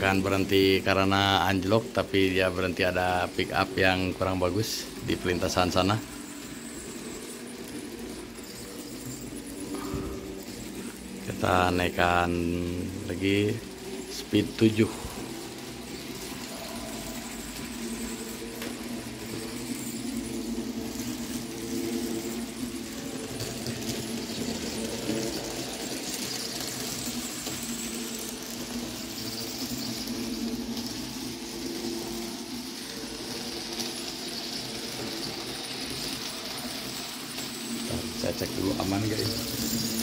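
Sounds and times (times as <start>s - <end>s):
model train motor whirring: 0.0s - 40.0s
wheels hissing on rails: 0.0s - 40.0s.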